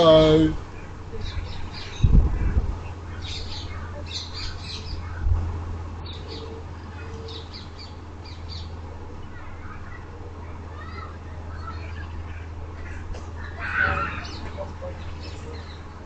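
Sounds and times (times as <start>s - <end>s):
birds chirping and squawking: 0.0s - 16.0s
steady low hum: 0.0s - 16.0s.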